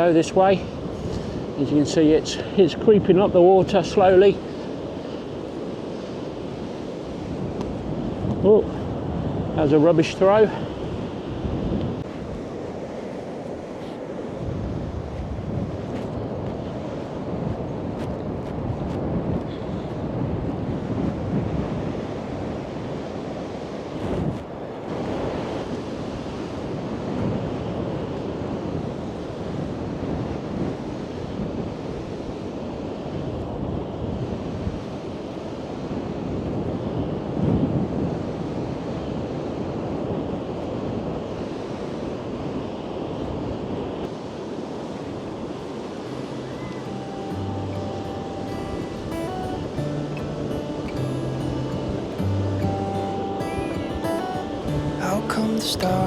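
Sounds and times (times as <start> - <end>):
sea waves washing onto beach: 0.0 - 56.0
wind buffeting microphone: 0.0 - 56.0.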